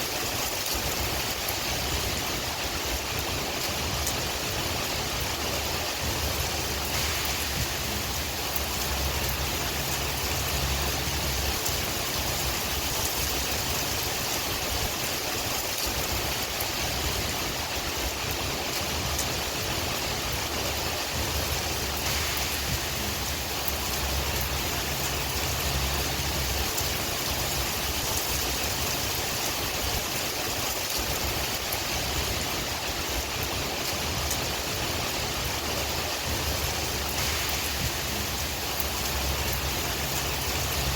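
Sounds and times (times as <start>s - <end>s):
low rumble of wind: 0.0s - 40.9s
steady rain hiss: 0.0s - 40.9s.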